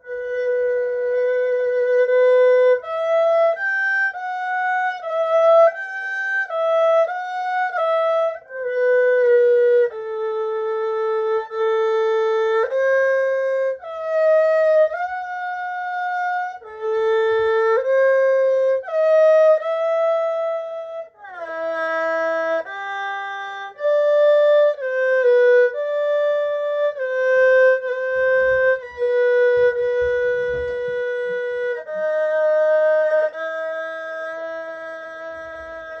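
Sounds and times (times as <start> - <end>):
erhu playing slow melody: 0.0 - 36.0.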